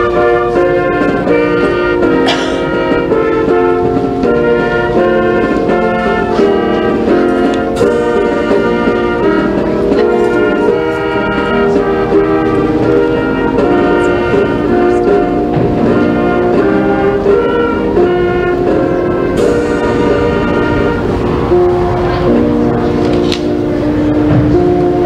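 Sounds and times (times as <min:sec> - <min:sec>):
brass instrumental music: 0:00.0 - 0:25.0.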